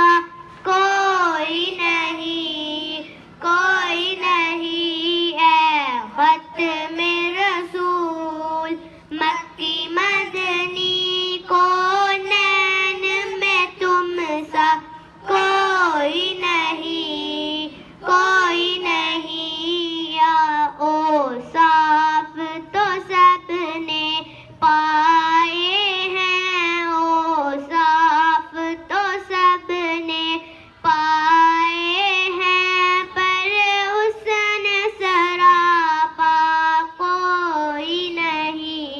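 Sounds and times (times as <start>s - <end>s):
boy singing into a microphone: 0.0s - 38.9s.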